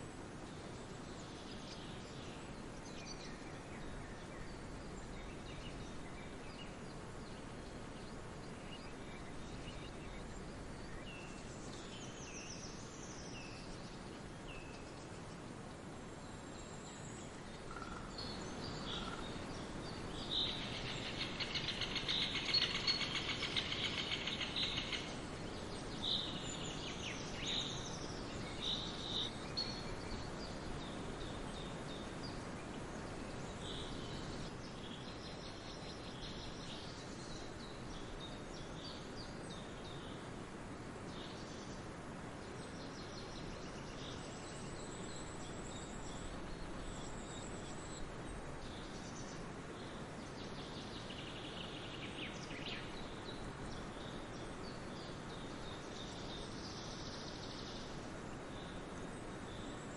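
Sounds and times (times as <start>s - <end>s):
steady background hiss: 0.0s - 59.9s
wild birds chirping: 0.0s - 59.9s.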